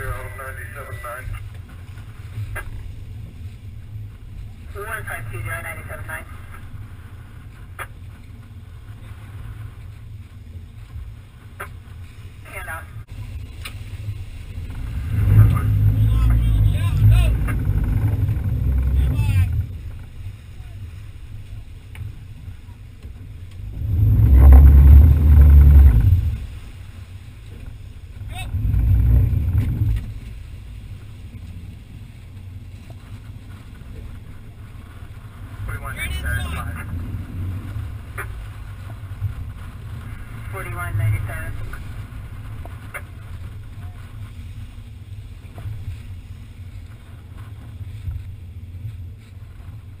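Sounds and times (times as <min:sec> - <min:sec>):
boat engine low rumble: 0:00.0 - 0:50.0
water rushing: 0:00.0 - 0:50.0
wind buffeting microphone: 0:00.0 - 0:50.0.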